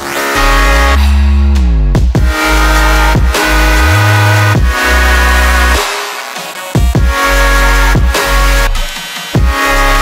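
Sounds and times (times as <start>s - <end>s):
gliding heavy bass line: 0.0s - 5.9s, 6.8s - 10.0s
electronic dance music: 0.0s - 10.0s.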